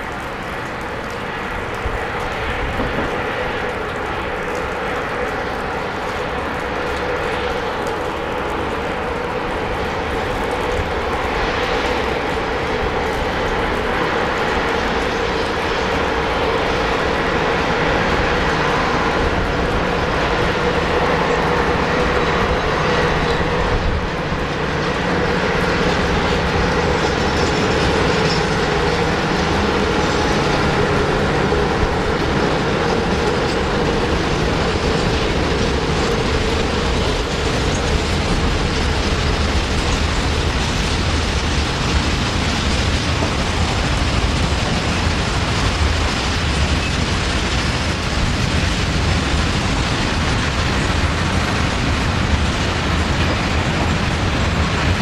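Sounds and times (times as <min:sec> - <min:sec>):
locomotive humming tone: 0:00.0 - 0:55.0
freight train wheels clattering: 0:07.8 - 0:55.0.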